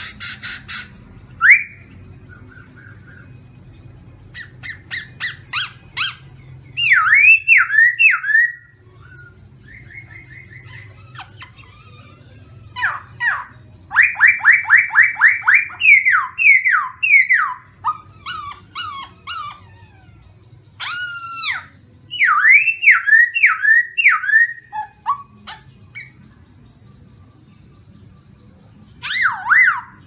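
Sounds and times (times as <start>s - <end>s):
bird singing whistled song: 0.0s - 19.6s, 20.8s - 30.0s.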